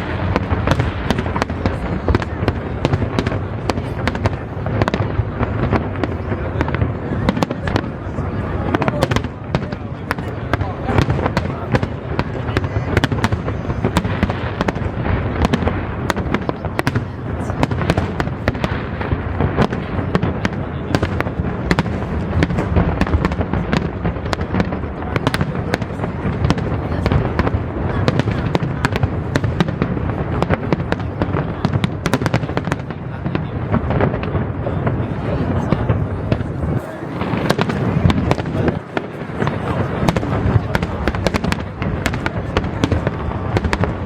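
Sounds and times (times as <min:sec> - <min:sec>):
fireworks cracks and crackles: 0:00.0 - 0:44.0.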